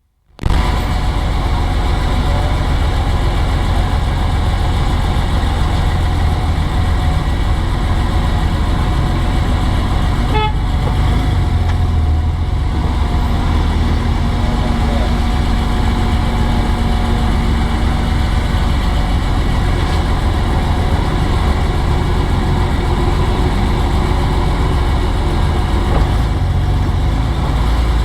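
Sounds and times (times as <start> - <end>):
car engine running: 0.4 - 28.0.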